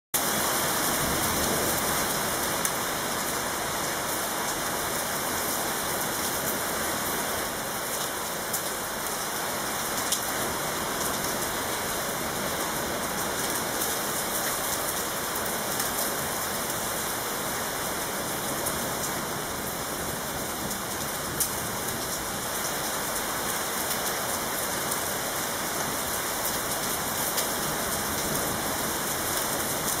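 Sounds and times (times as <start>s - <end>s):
heavy rain pouring: 0.2s - 30.0s.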